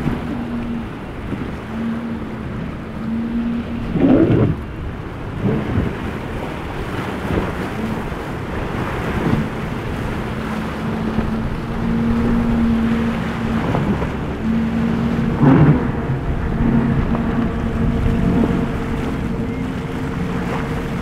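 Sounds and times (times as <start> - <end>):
hull crashing through waves: 0.0 - 21.0
outboard engines droning: 0.0 - 21.0
wind buffeting microphone: 0.0 - 21.0.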